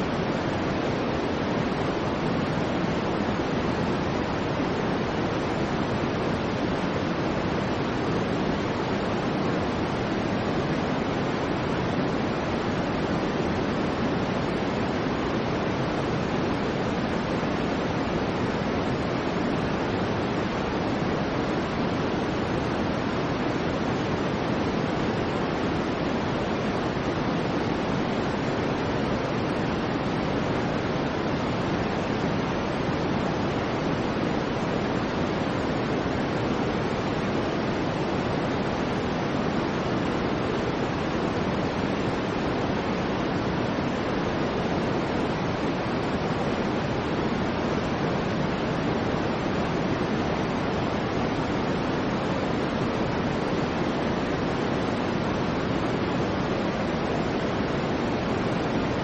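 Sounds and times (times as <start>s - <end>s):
soft white noise hiss: 0.0s - 59.0s.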